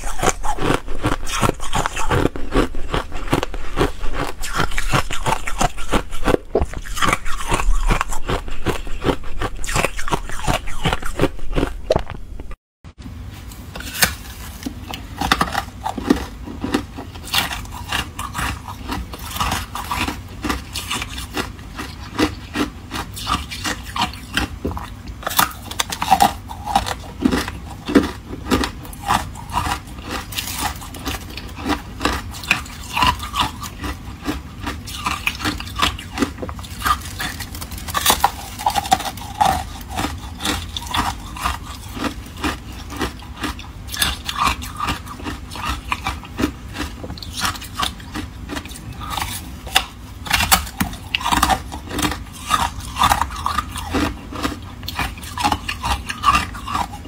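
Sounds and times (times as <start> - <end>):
thin ice being chewed: 0.0 - 12.6, 13.8 - 57.0.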